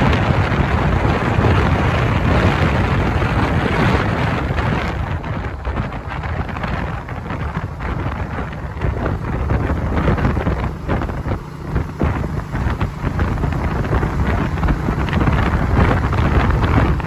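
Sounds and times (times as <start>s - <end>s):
low rumble of road traffic: 0.0s - 17.0s
wind buffeting microphone: 0.0s - 17.0s.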